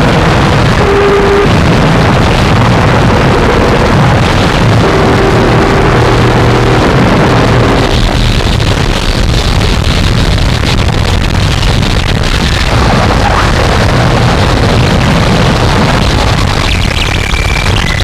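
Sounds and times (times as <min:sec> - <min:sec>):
harsh distorted noise music: 0:00.0 - 0:18.0
low droning tones: 0:00.0 - 0:18.0.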